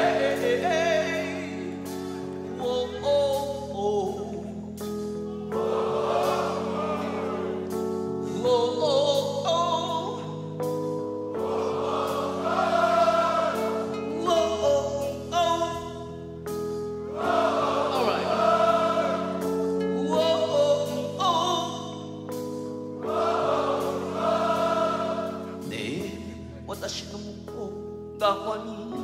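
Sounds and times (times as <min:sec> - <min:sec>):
person singing: 0:00.0 - 0:10.8, 0:11.4 - 0:16.2, 0:17.2 - 0:22.4, 0:23.0 - 0:29.0
live band chords: 0:00.0 - 0:29.0.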